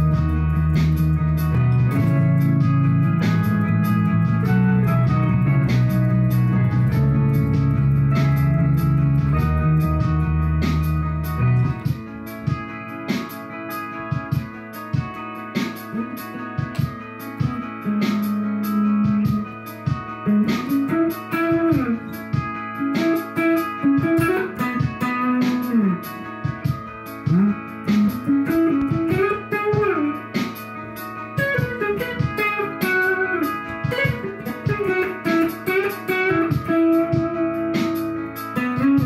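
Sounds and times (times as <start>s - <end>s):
electric guitar lead line: 0.0s - 39.0s
layered backing loops: 0.0s - 39.0s.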